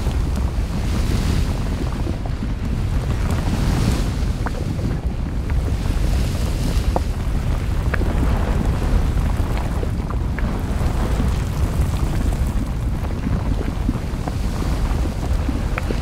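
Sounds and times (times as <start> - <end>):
deep rumble: 0.0 - 16.0
small crackles: 0.0 - 16.0.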